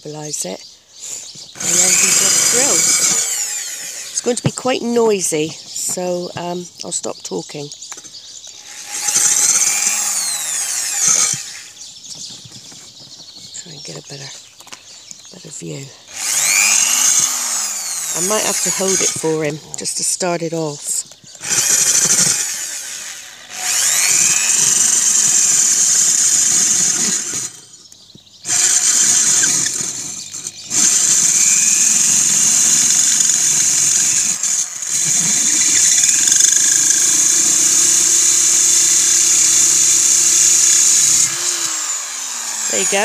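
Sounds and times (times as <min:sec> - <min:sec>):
electric drill grinding clay: 0:01.0 - 0:06.9, 0:07.9 - 0:12.4, 0:15.7 - 0:43.0.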